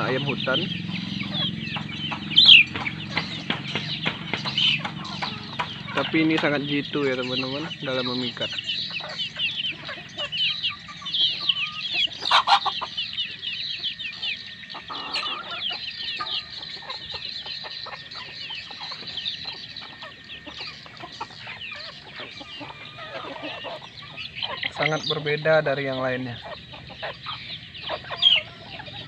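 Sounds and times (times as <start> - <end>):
chickens clucking softly: 0.0 - 29.0.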